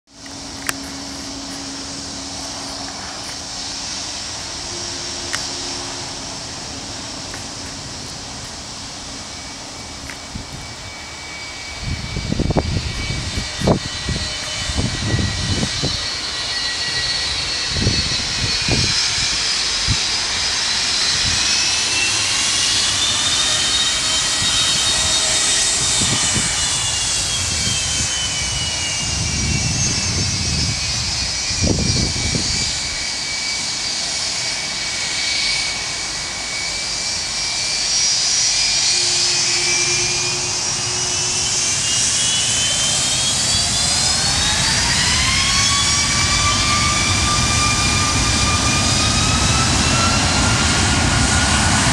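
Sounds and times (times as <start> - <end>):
jet engines whining: 0.1 - 51.9.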